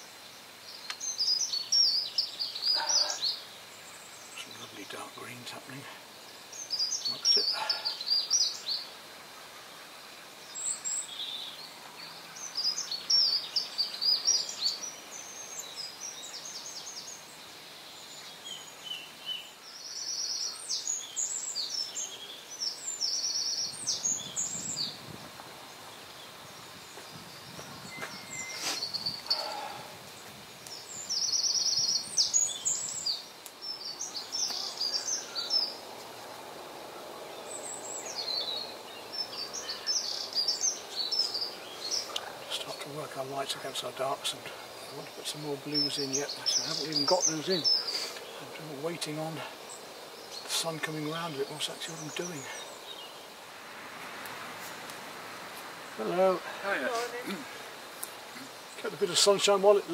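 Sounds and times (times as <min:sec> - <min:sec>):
faint outdoor hiss: 0:00.0 - 0:59.9
songbirds singing trills and chirps: 0:00.0 - 0:59.9.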